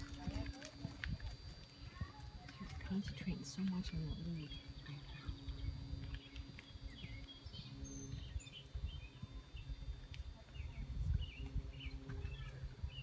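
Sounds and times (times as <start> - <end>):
low uneven rumble: 0.0 - 13.0
songbirds chirping: 0.0 - 13.0.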